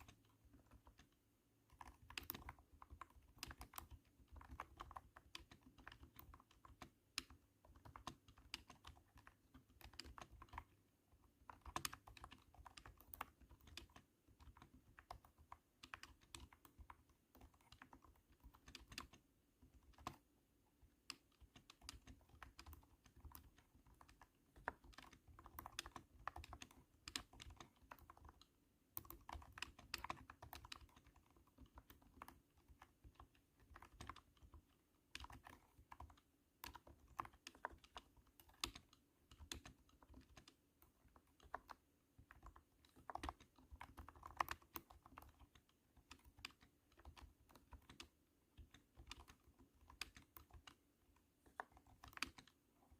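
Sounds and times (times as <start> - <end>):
thunky keyboard typing: 0.0 - 52.9.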